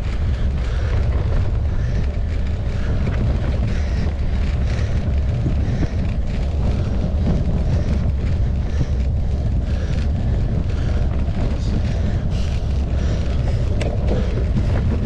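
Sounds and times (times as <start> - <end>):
bike riding rumble: 0.0 - 15.0
wind buffeting microphone: 0.0 - 15.0.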